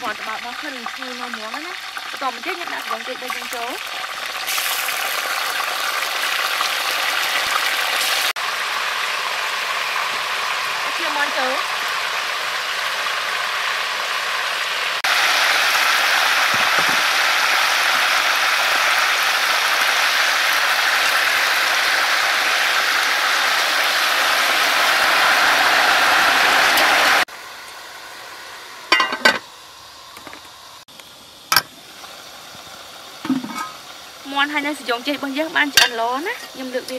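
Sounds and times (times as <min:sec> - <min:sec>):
chicken sizzling in a pot: 0:00.0 - 0:36.9.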